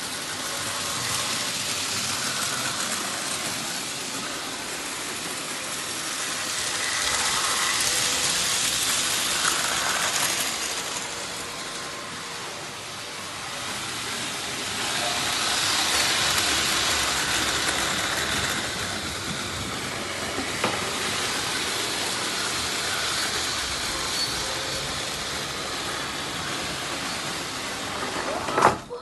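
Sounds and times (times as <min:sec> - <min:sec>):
model train running on track: 0:00.0 - 0:29.0.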